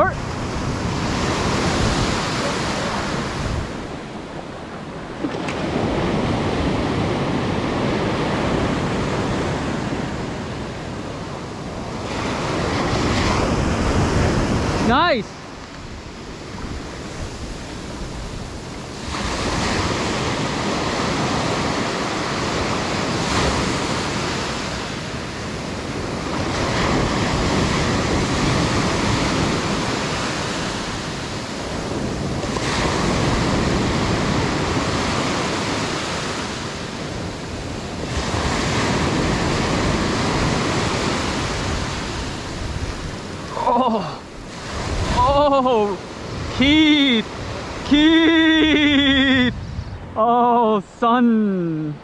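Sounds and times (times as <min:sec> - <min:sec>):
surf breaking on shore: 0:00.0 - 0:52.0.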